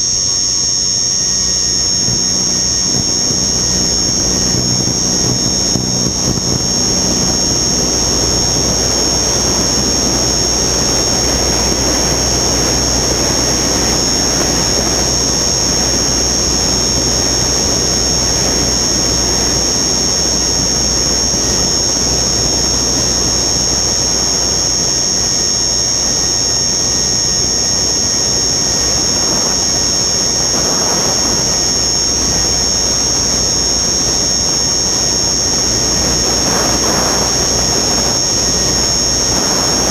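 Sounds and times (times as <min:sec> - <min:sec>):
model aircraft motor whine: 0:00.0 - 0:39.9.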